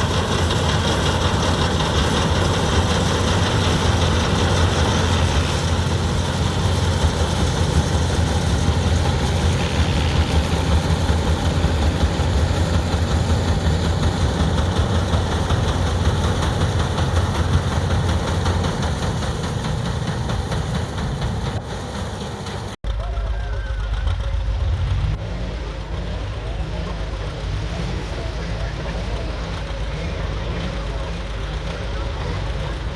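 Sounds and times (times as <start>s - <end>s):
tractor engine rumbling: 0.0s - 32.9s.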